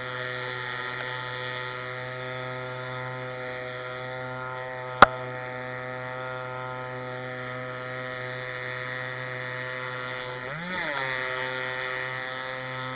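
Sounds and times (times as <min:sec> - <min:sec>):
small engine running: 0:00.0 - 0:12.9.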